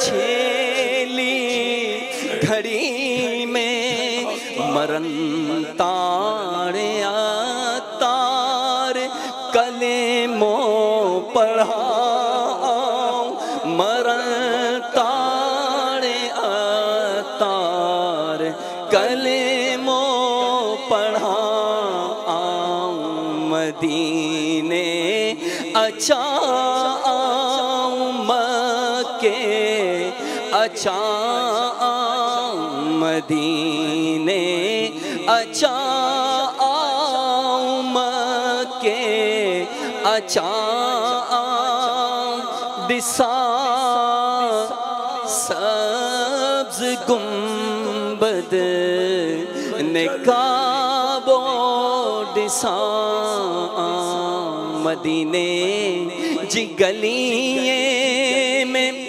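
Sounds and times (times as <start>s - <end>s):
men singing chant-like melody: 0.0s - 59.0s.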